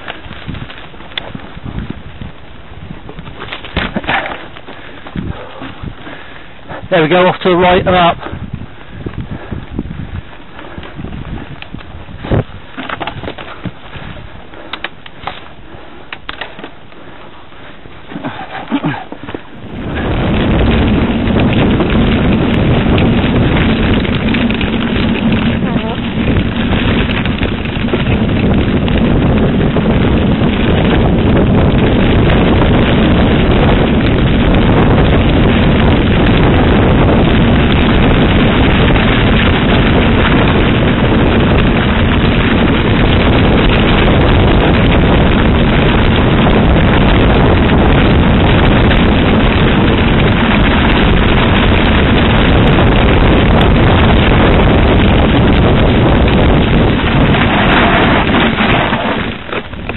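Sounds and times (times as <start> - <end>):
tyres rolling over gravel: 0.0 - 59.9
wind buffeting microphone: 0.0 - 59.9.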